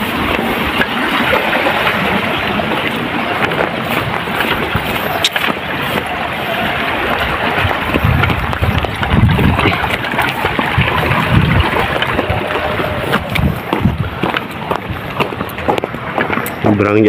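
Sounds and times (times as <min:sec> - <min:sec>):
wind buffeting microphone: 0:00.0 - 0:17.0
low thumps: 0:00.8 - 0:16.6.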